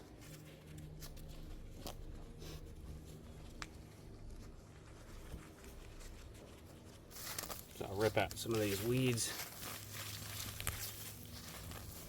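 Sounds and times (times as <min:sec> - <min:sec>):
faint low hum: 0:00.0 - 0:12.0
rustling of dry weeds: 0:00.0 - 0:12.0.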